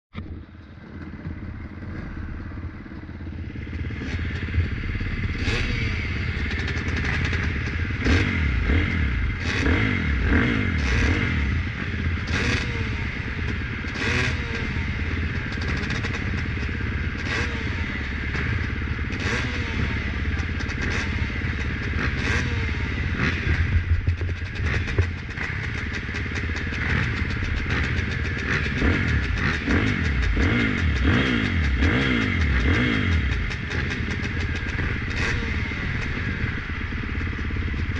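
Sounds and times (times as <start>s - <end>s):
dirt bikes revving: 0.5s - 37.9s.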